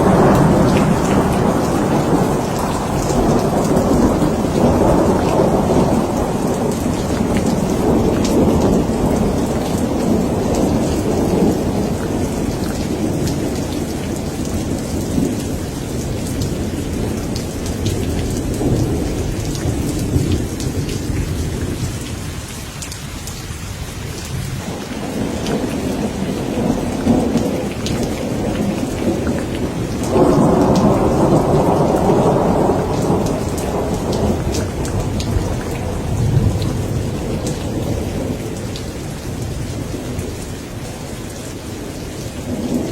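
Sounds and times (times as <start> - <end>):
rolling thunder: 0.0 - 22.5, 23.8 - 40.9
steady rain: 0.0 - 42.9.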